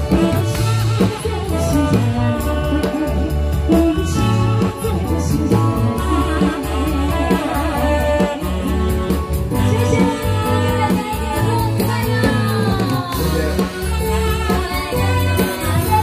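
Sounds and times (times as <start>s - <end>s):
live band playing pop song: 0.0s - 16.0s
steady bass beat: 0.0s - 16.0s
woman singing into microphone: 0.0s - 16.0s.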